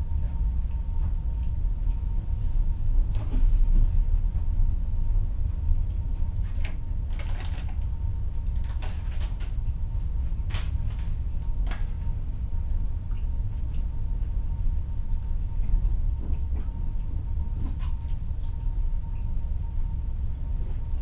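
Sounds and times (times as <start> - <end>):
faint steady hum: 0.0 - 21.0
low rumble of moving ship: 0.0 - 21.0.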